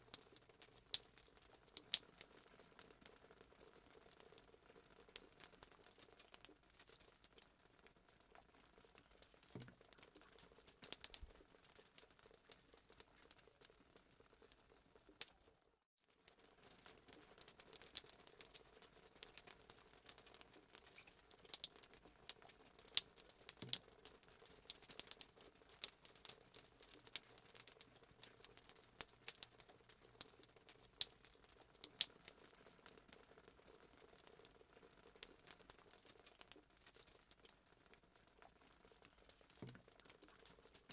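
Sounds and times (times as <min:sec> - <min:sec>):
faint wood fire crackling: 0:00.0 - 0:15.5, 0:16.2 - 0:40.9.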